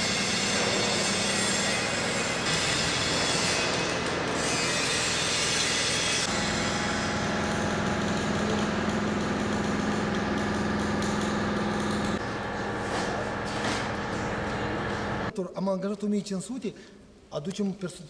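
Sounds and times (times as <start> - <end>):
low factory machine hum: 0.0 - 15.4.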